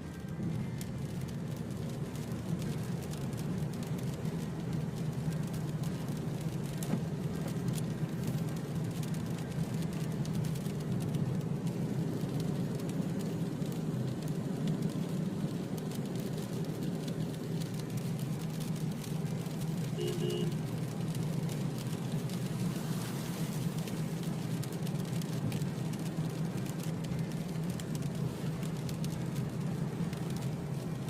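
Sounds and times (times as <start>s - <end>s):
car driving on wet road: 0.0s - 31.0s.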